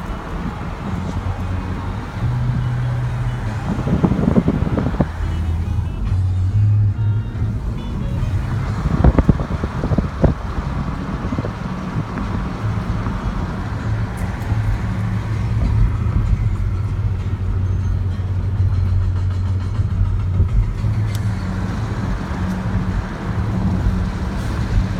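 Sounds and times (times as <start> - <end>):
road or wind noise: 0.0 - 24.9
vehicle engine humming: 0.0 - 24.9.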